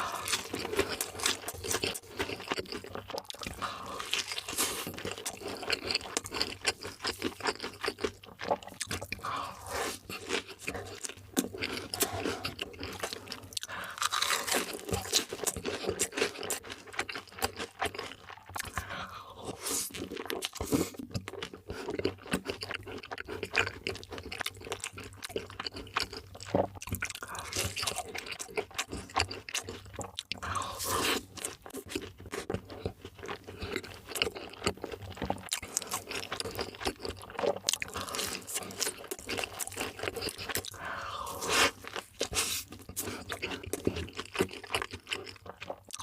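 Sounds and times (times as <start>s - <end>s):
crunching and chewing food: 0.0s - 46.0s.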